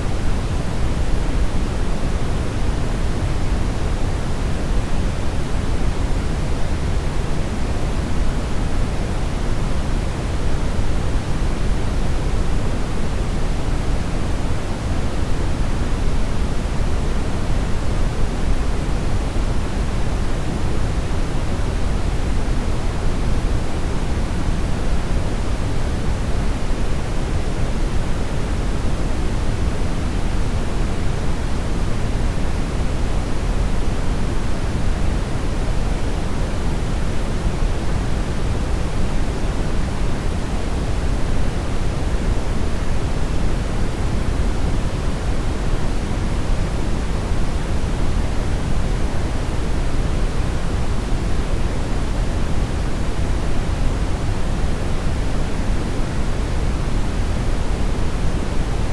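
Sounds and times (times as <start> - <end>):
brown noise hiss: 0.0 - 58.9.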